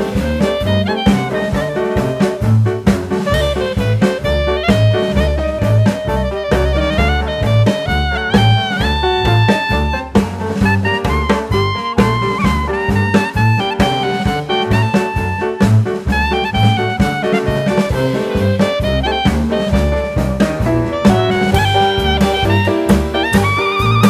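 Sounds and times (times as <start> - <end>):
jazz music with saxophone: 0.0 - 24.0.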